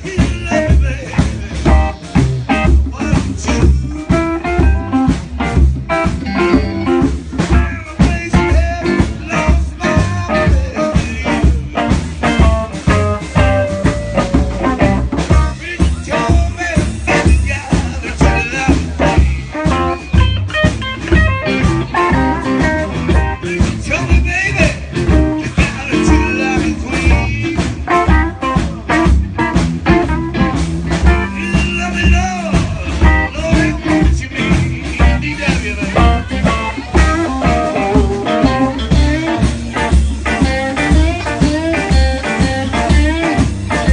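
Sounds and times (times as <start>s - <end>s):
bass: 0.0s - 43.9s
drum kit beats: 0.0s - 43.9s
guitar: 0.0s - 43.9s
live blues band playing: 0.0s - 43.9s.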